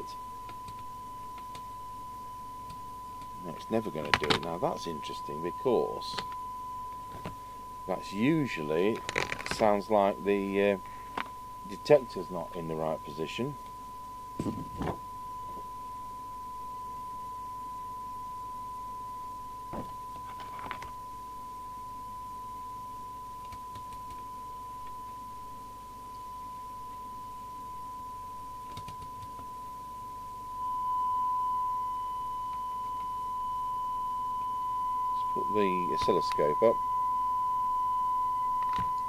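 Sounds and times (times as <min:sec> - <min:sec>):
steady test tone: 0:00.0 - 0:39.0.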